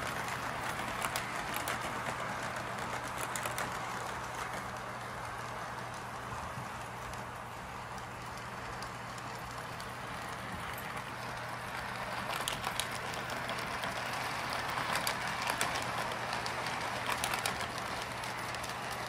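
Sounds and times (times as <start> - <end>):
toy train rolling rumble: 0.0 - 19.0
wheels clicking over rail joints: 0.0 - 19.0.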